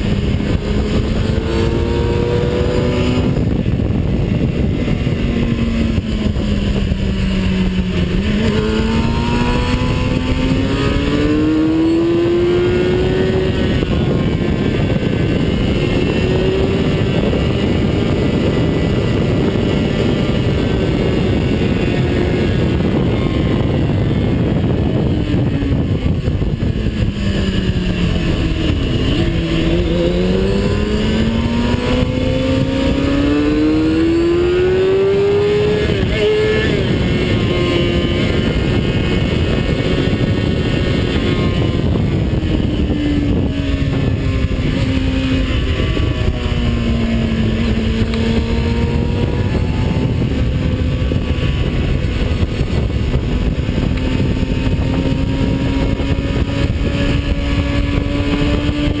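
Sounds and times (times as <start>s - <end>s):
race car engine revving: 0.0s - 7.0s, 7.7s - 59.0s
wind rush on camera: 0.0s - 59.0s.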